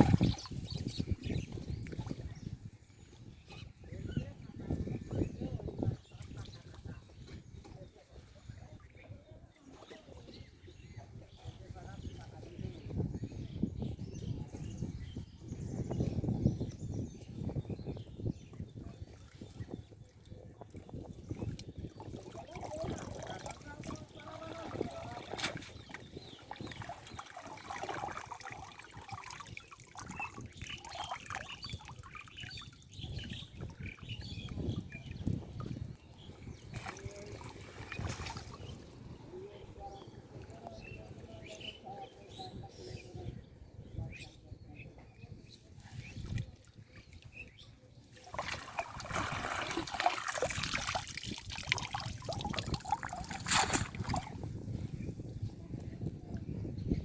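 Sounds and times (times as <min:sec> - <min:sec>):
water splashing and trickling: 0:00.0 - 0:13.1, 0:15.8 - 0:41.6, 0:45.6 - 0:56.7.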